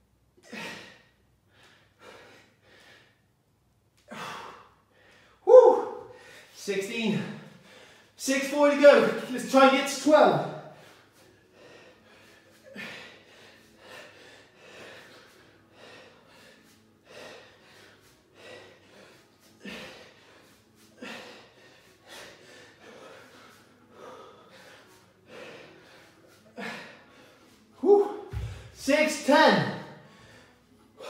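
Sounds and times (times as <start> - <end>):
man breathing hard: 0.4 - 3.4, 4.0 - 8.2, 10.5 - 28.8, 29.8 - 31.0.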